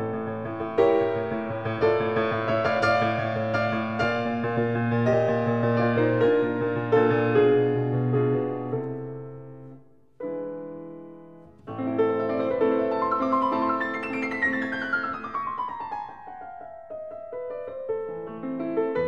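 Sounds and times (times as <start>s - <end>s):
descending piano notes: 0.0s - 19.0s
piano chords ringing: 0.0s - 19.0s.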